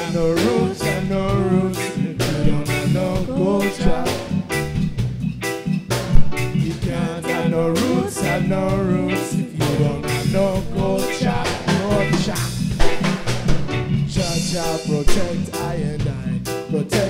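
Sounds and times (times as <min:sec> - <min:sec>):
reggae band playing live: 0:00.0 - 0:17.0.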